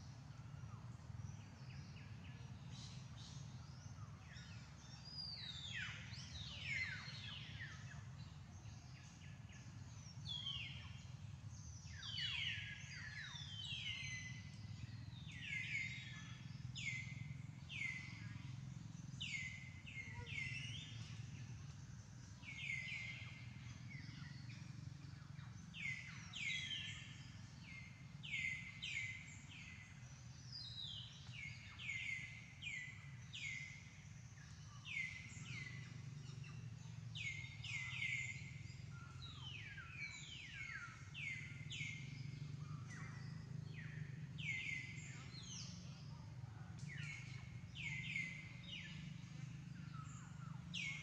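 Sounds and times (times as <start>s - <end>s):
faint low outdoor hum: 0.0s - 51.0s
bird chirping: 1.3s - 51.0s.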